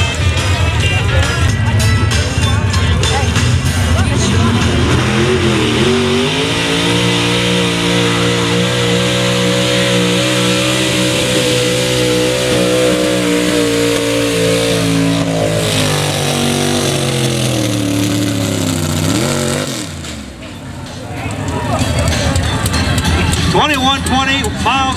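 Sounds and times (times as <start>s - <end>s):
truck engine at full throttle: 0.0s - 24.9s.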